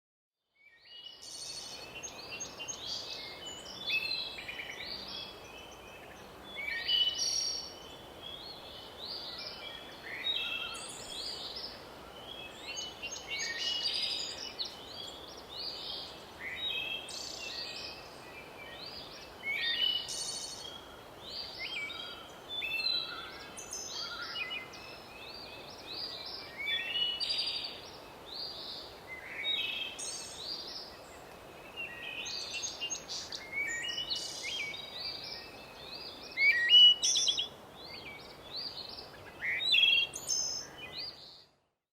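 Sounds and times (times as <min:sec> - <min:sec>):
faint steady hiss: 0:00.7 - 0:41.7.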